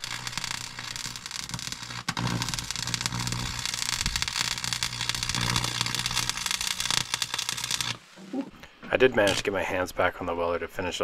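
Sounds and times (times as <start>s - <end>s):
welding arc crackling: 0.0s - 8.4s, 9.1s - 9.5s.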